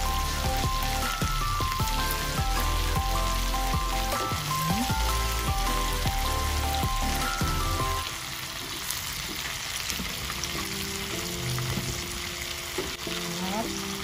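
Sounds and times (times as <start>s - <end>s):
background music: 0.0s - 9.4s, 10.1s - 14.0s
oil sizzling in a frying pan: 0.0s - 14.0s.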